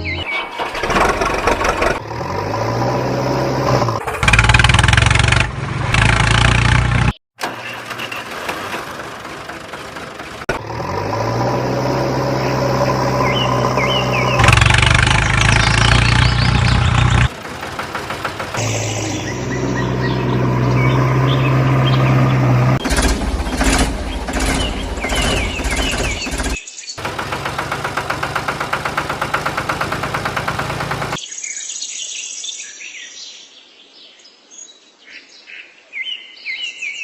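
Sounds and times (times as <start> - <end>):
engine starting and revving: 0.2 - 31.2.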